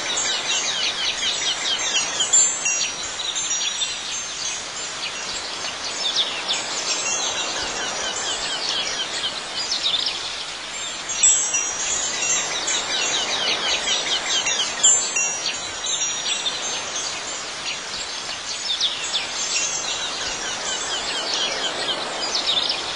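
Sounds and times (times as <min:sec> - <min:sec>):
wind chimes tinkling: 0:00.0 - 0:22.9.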